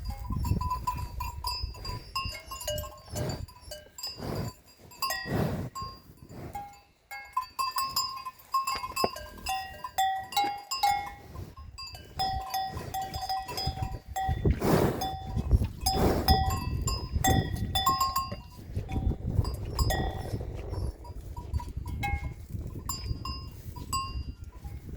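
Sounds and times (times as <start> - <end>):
cattle bells clanking: 0.0 - 24.9.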